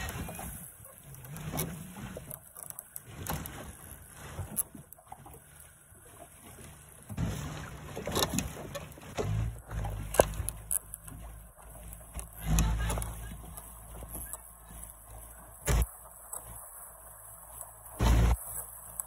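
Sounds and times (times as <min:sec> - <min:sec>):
motorboat motor humming: 0:00.0 - 0:19.0
water noise: 0:00.0 - 0:19.0.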